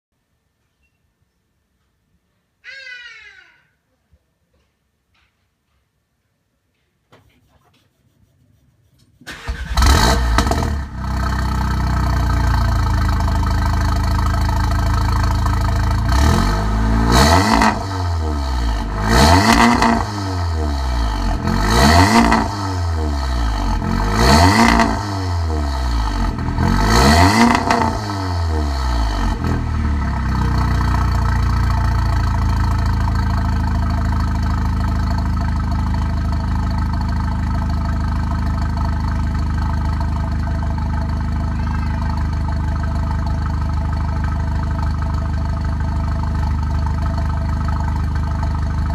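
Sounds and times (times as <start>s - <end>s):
car engine idling and revving: 9.3s - 48.9s.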